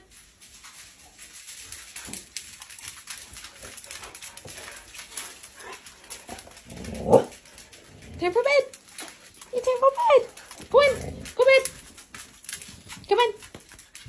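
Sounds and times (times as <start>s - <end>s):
dog claws clicking on vinyl floor: 0.0s - 14.0s.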